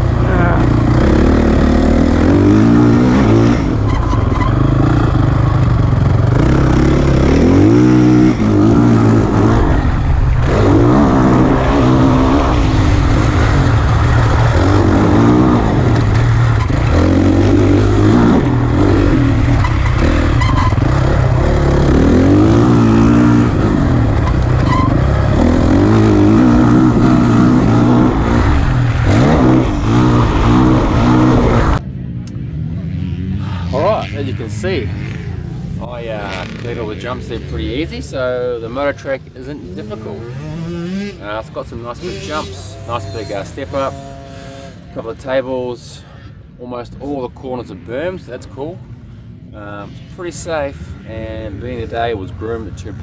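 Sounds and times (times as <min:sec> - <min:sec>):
dirt bike engine revving: 0:00.0 - 0:46.2, 0:47.1 - 0:53.0.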